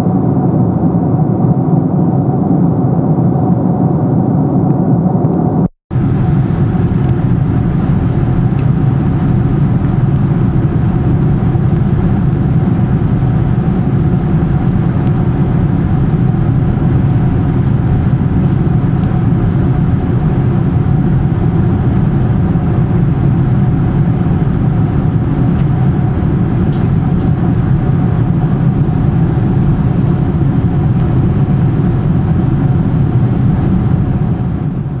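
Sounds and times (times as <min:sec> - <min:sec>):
airliner cabin engine rumble: 0:00.0 - 0:35.0
faint steady hum: 0:00.0 - 0:35.0.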